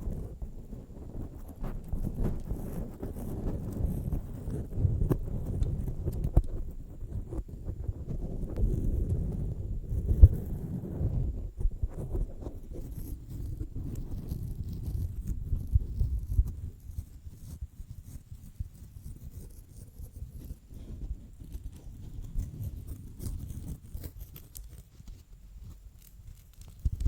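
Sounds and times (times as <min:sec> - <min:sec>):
fingers scratching on microphone: 0:00.0 - 0:27.0.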